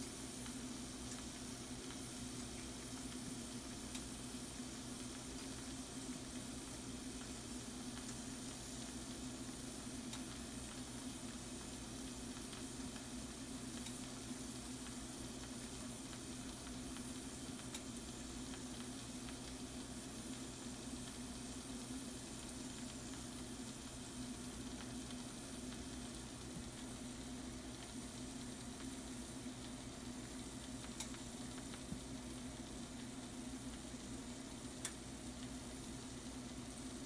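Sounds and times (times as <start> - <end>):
food sizzling in frying pan: 0.0 - 37.0.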